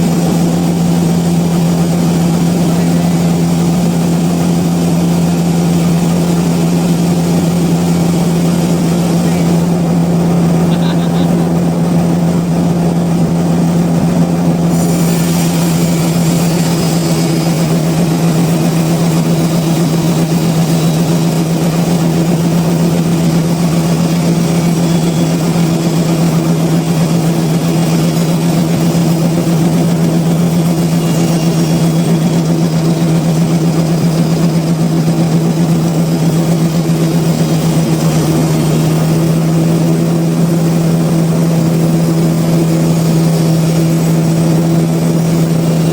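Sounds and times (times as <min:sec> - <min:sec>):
sawmill machinery drone: 0:00.0 - 0:45.9.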